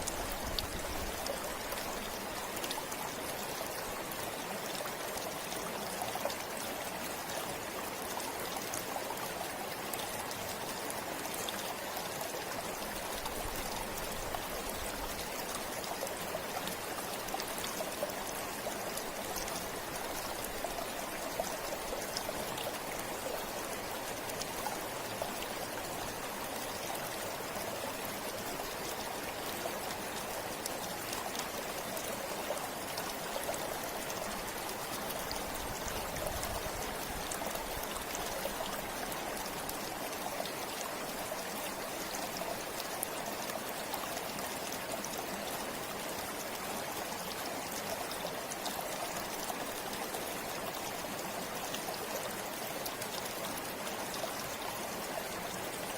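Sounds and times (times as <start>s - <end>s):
stream flowing over stones: 0.0s - 55.9s.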